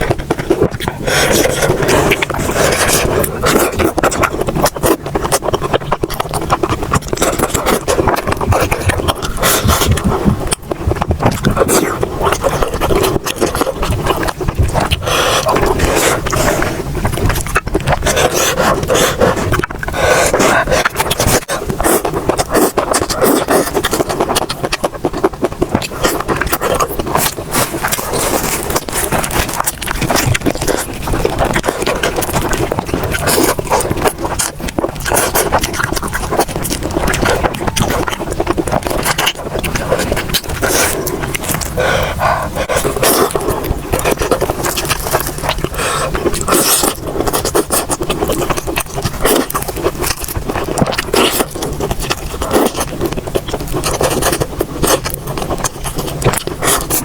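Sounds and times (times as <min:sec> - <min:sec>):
close chewing with crackles: 0:00.0 - 0:57.0.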